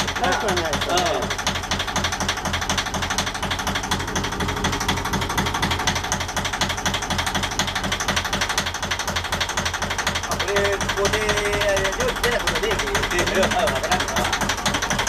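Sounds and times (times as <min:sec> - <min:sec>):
marine diesel engine clattering: 0:00.0 - 0:15.0.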